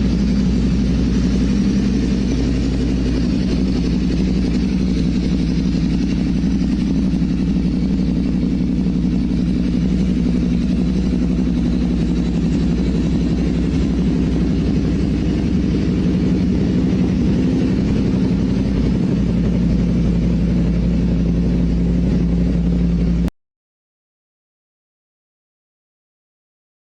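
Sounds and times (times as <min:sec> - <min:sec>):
engine running with deep rumble: 0:00.0 - 0:23.3.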